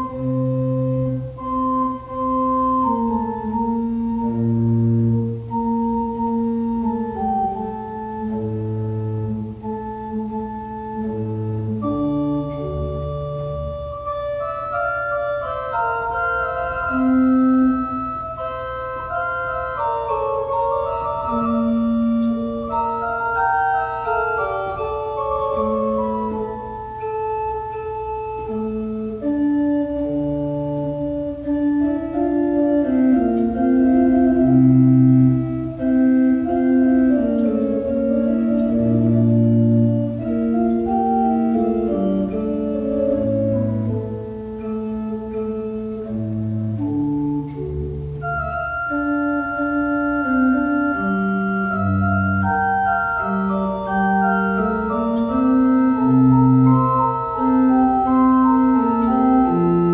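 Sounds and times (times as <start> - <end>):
slow organ music: 0.0 - 59.9.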